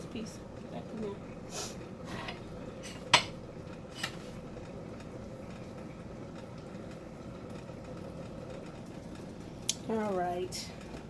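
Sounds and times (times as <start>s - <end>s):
pot simmering hiss: 0.0s - 11.0s.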